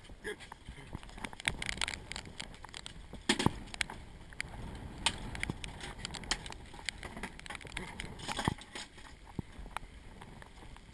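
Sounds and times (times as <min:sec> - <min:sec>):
rustling against rain jacket: 0:00.0 - 0:10.9.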